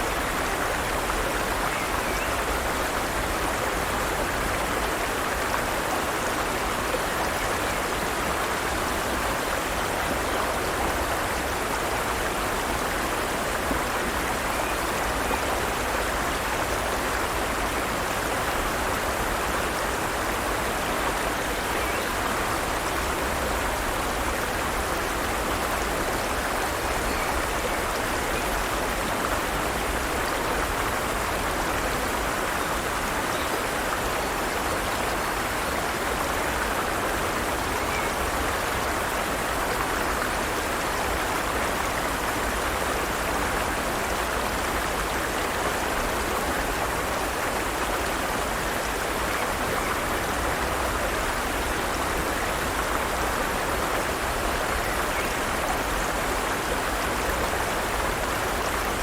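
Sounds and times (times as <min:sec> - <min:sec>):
stream running water: 0:00.0 - 0:59.0.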